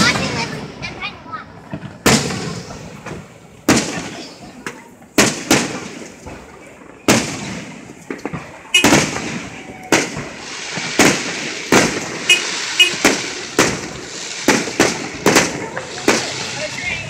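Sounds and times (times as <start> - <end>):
firework crackling hiss: 0.0 - 17.0
firework shells bursting: 1.8 - 16.8.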